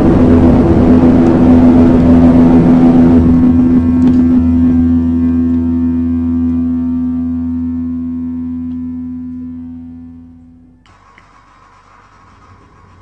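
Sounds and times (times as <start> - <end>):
held tone with overtones: 0.0 - 11.0
low drone: 0.0 - 13.0.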